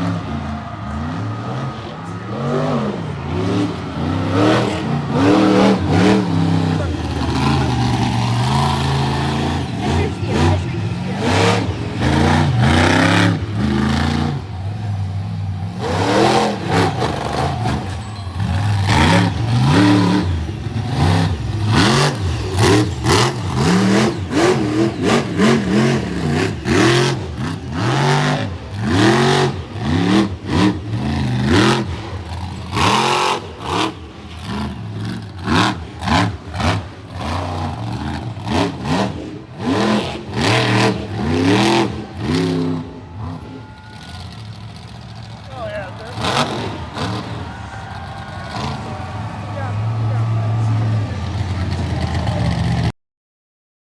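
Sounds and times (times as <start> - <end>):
truck engine revving: 0.0 - 52.9.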